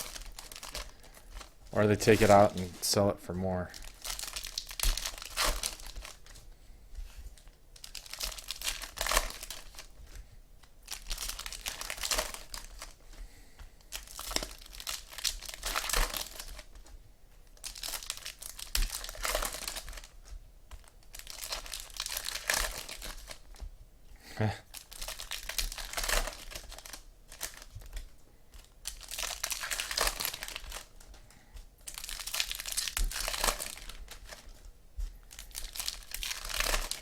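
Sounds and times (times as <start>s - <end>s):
card pack wrappers crinkling: 0.0s - 6.5s, 7.4s - 13.1s, 13.8s - 16.9s, 17.5s - 23.6s, 24.6s - 31.2s, 31.8s - 37.0s.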